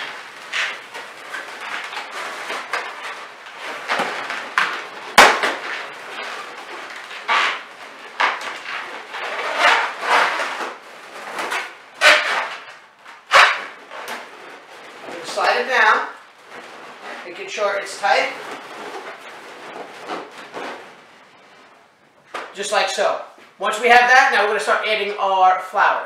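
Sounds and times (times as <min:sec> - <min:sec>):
balloons rubbing and squeaking: 0:00.0 - 0:22.0.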